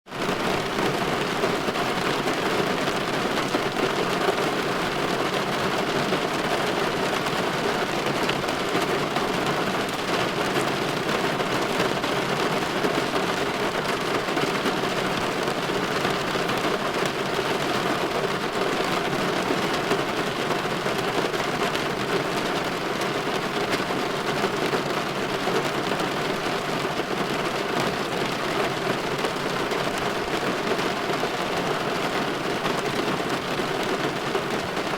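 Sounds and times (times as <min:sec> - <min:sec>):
rain pattering on window glass: 0:00.1 - 0:34.9.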